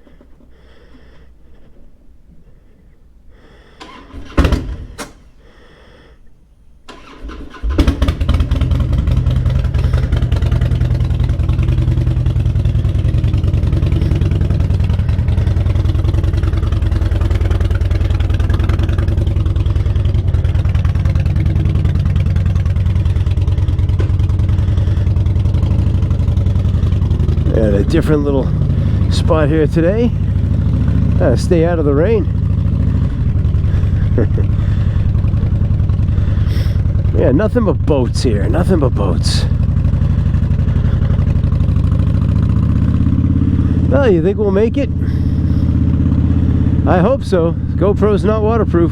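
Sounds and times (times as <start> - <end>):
motorcycle engine starting: 0.0 - 5.6, 6.6 - 48.9
motorcycle engine idling: 6.9 - 48.9.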